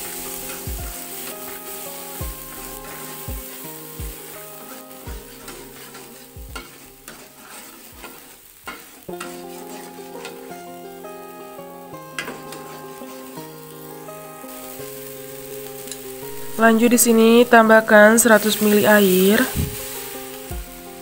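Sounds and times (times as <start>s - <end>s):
metal spatula scraping wok: 0.0s - 11.1s, 12.1s - 21.0s
paste sizzling in hot oil: 0.0s - 21.0s
soft background music: 0.0s - 21.0s.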